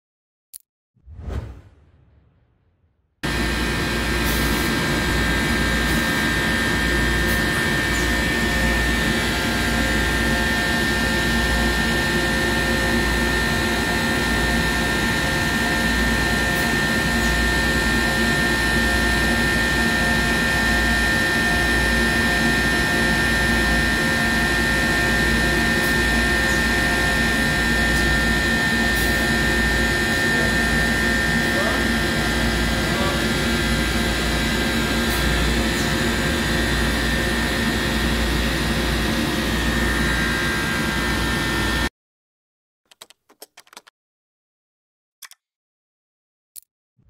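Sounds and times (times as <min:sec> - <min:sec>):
lathe machine running: 0:03.3 - 0:41.8.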